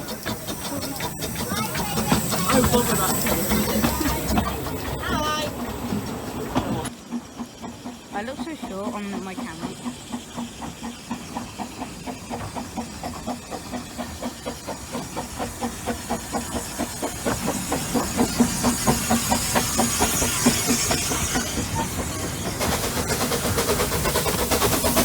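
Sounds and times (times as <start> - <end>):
steam hissing: 0.0 - 25.0
steam locomotive chuffing: 0.0 - 25.0.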